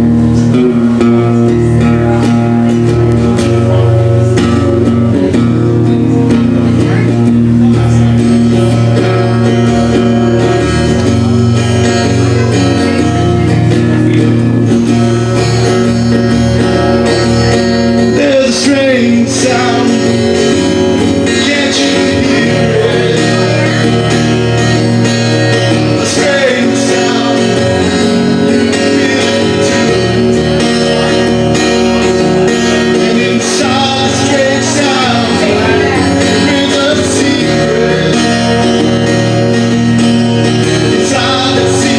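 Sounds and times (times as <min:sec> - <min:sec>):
bending lead guitar lines: 0:00.0 - 0:41.9
live band music: 0:00.0 - 0:41.9.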